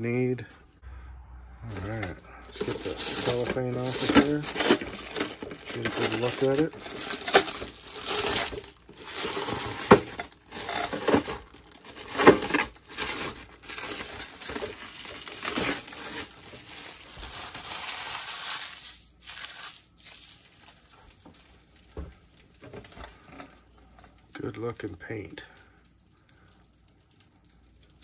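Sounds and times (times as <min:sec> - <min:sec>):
cellophane wrap crinkling: 0:01.7 - 0:25.5.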